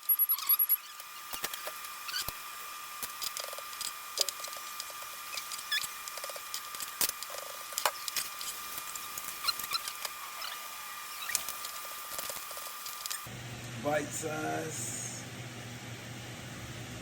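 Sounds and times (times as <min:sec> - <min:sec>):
high-pitched electrical whine: 0:00.0 - 0:15.3.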